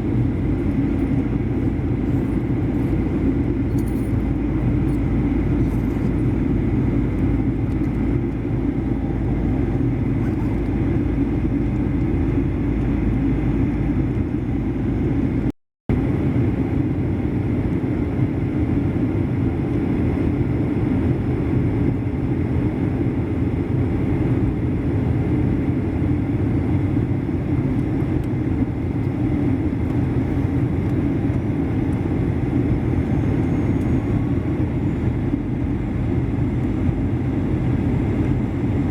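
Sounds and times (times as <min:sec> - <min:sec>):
jet engine roar inside cabin: 0:00.0 - 0:38.9.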